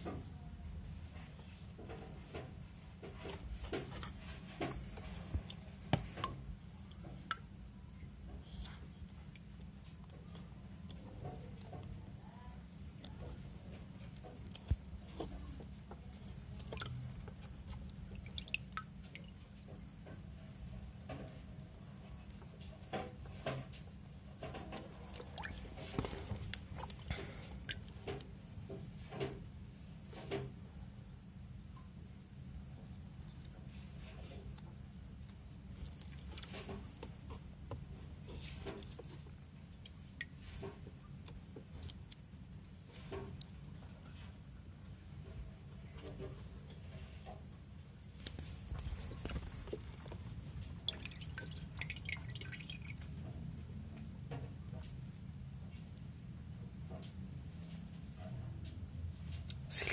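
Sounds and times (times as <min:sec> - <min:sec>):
water dripping into plastic tub: 0:00.0 - 0:21.5, 0:22.2 - 0:29.6, 0:34.5 - 0:44.3, 0:45.2 - 0:57.8.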